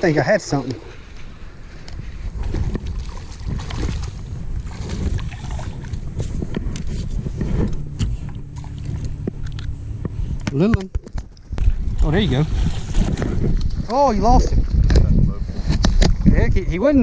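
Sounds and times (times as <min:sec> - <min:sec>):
wind rumbling on microphone: 0:00.6 - 0:17.0
low hum: 0:00.8 - 0:14.9.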